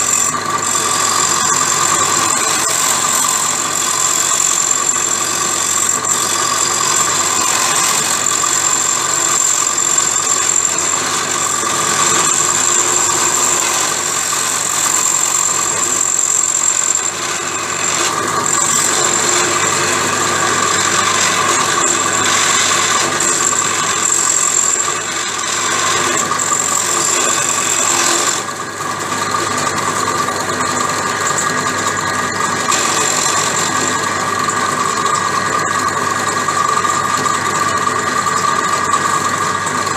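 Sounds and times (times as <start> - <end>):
drill press machining whine: 0.0 - 39.9.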